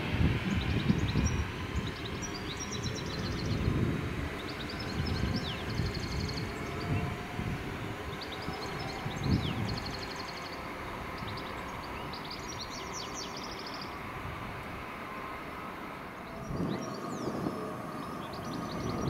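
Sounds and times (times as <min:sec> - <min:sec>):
train rumbling by: 0:00.0 - 0:19.0
small birds trilling: 0:00.4 - 0:14.1, 0:16.2 - 0:19.0.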